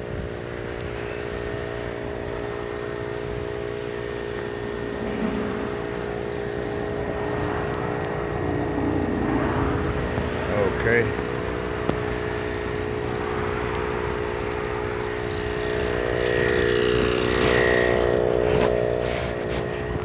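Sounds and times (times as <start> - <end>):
air compressor humming: 0.0 - 20.0.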